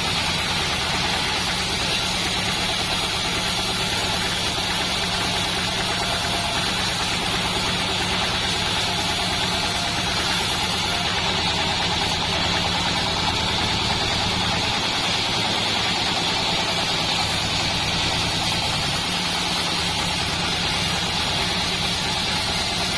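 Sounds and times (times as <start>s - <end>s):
high saw hiss: 0.0s - 22.9s
sawmill engine hum: 0.0s - 22.9s.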